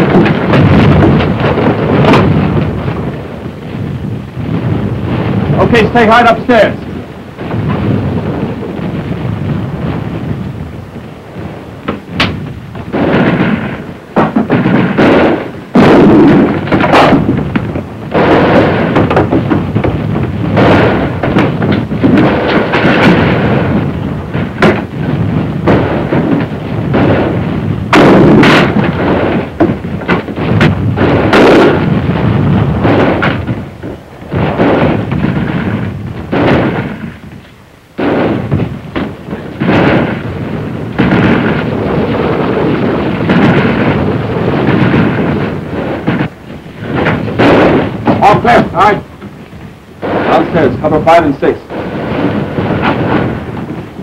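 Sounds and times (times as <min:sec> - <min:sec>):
gunshots: 0:00.0 - 0:54.0
heavy rumbling din: 0:00.0 - 0:54.0.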